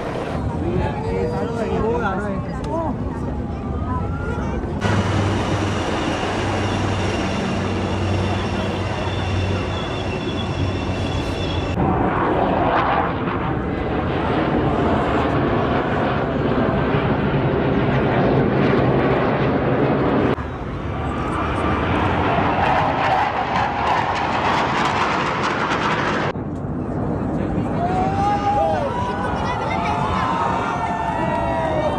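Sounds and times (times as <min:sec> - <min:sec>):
military jets flying past: 0:00.0 - 0:31.9.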